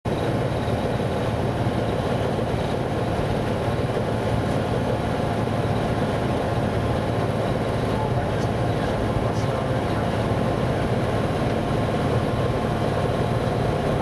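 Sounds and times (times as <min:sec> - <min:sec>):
propeller aircraft engine: 0:00.1 - 0:14.0.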